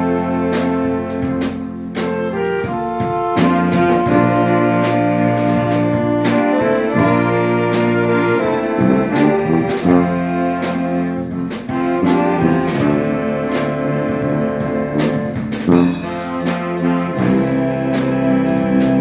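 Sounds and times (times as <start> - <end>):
brass band playing: 0.0 - 19.0
drum and cymbal strokes: 0.0 - 19.0.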